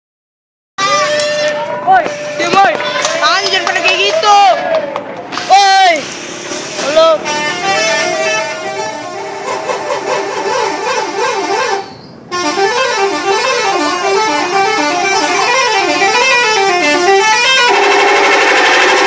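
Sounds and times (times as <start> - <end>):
bus air horns playing melody: 0.8 - 4.1, 6.0 - 19.0.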